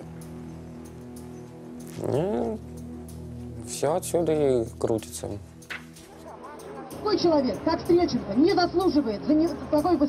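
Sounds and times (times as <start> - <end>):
soft sustained chord music: 0.0 - 10.0.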